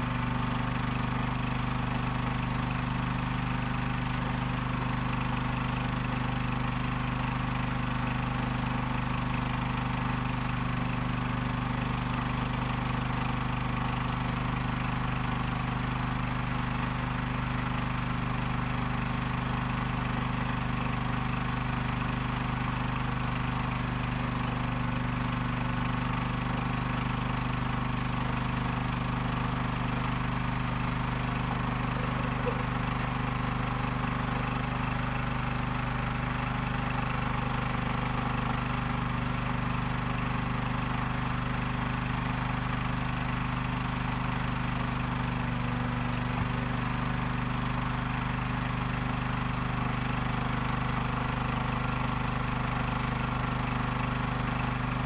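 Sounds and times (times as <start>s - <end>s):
small petrol engine running: 0.0s - 55.0s.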